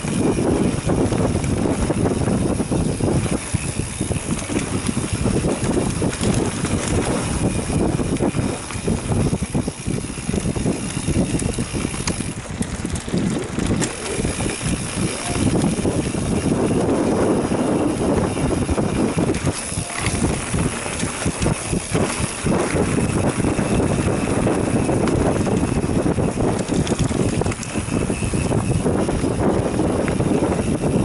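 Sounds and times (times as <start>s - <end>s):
bike clicks and rattles: 0.0s - 31.0s
tyres rumbling on dirt: 0.0s - 31.0s
wind buffeting microphone: 0.0s - 31.0s.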